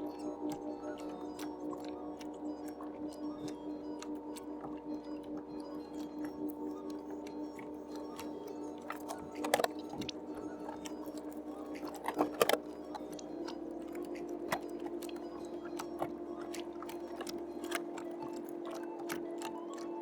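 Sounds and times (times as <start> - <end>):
soft crunching and clicking: 0.1 - 20.0.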